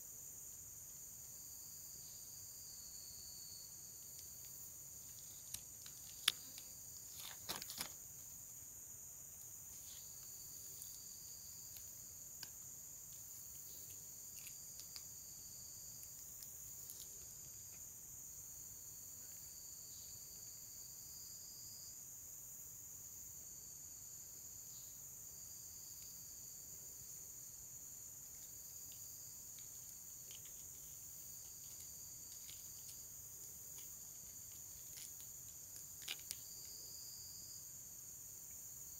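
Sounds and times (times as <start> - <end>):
insects trilling: 0.0 - 38.9
lower insect call: 0.0 - 38.9.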